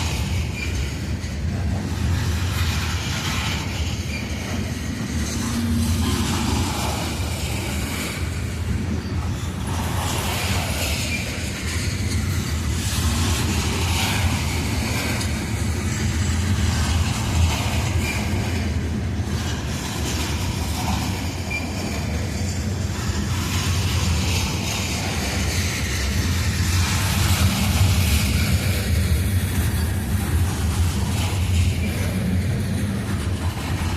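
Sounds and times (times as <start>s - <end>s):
steel wheels rumbling on rails: 0.0s - 33.9s
train cars clattering: 0.0s - 33.9s.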